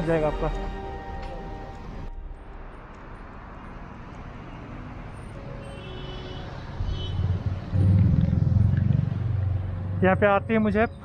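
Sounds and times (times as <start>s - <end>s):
vehicle engine rumble: 0.8s - 11.0s.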